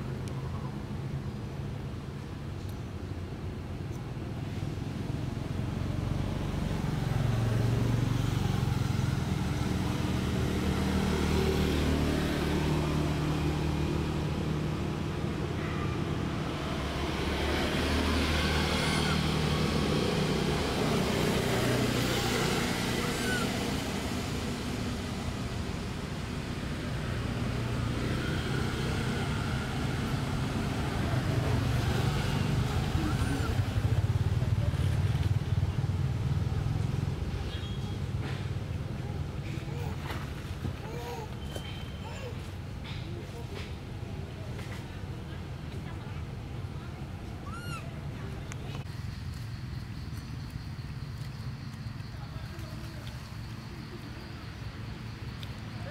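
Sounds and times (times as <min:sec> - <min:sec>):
vehicle engine humming: 0:03.2 - 0:55.9.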